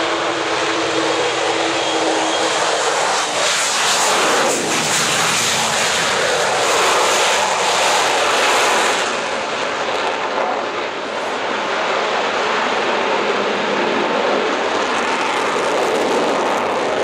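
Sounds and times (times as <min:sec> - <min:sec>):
loud jet engine noise: 0:00.0 - 0:17.0.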